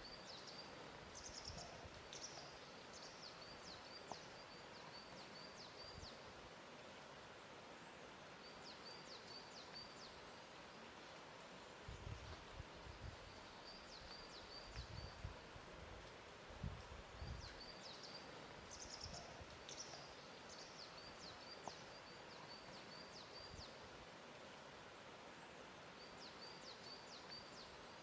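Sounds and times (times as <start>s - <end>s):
steady quiet hiss: 0.0s - 28.0s.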